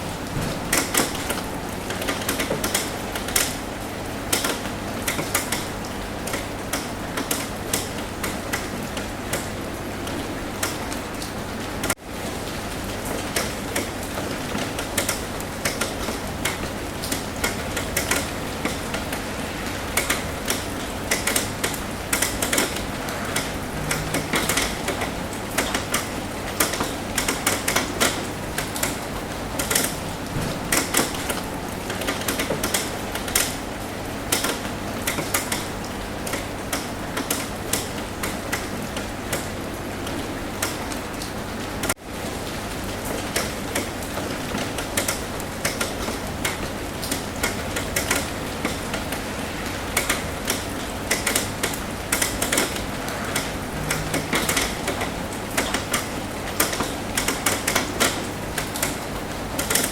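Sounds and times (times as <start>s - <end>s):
raindrops tapping on roof: 0.0s - 59.9s
rainfall hiss: 0.0s - 59.9s.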